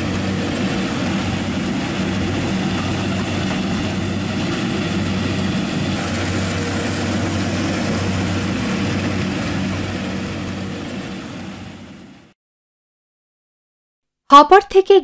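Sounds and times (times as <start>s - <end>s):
combine harvester running: 0.0s - 12.3s.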